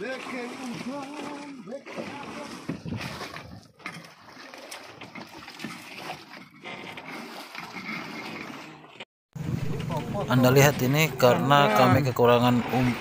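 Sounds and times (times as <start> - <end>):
sea water splashing against boat: 0.0 - 13.0.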